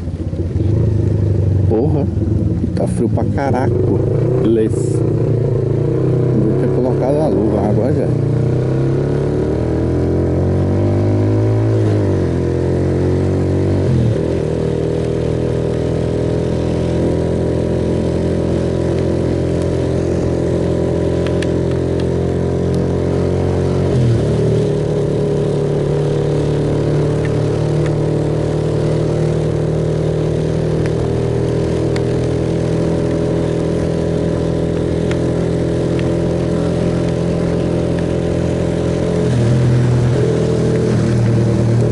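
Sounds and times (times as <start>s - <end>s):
motorcycle engine: 0.0s - 41.9s.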